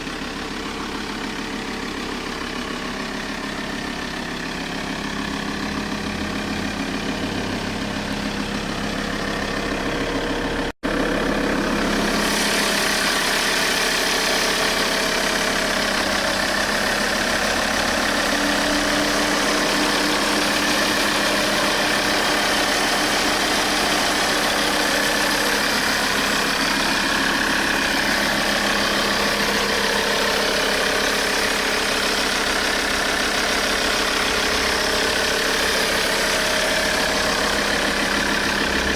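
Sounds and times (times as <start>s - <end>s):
diesel car engine idling: 0.0s - 38.9s.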